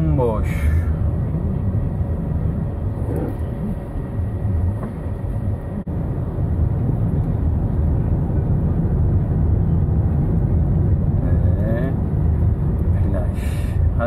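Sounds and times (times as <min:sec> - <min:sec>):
car driving road and engine noise: 0:00.0 - 0:14.0.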